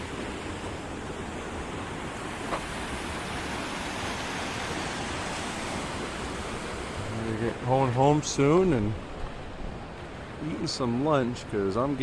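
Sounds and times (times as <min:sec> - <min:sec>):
water rushing over dam: 0:00.0 - 0:12.0.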